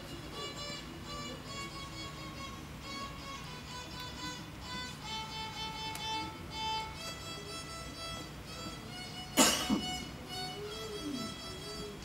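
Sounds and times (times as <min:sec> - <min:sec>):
solo violin tune: 0:00.3 - 0:12.0.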